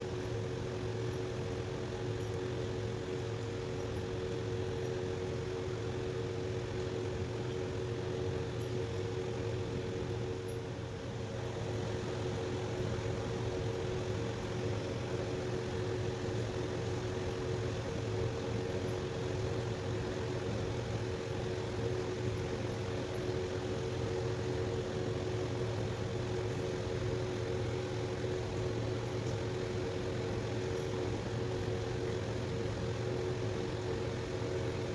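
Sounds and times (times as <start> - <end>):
steady mechanical hum: 0.0 - 34.9.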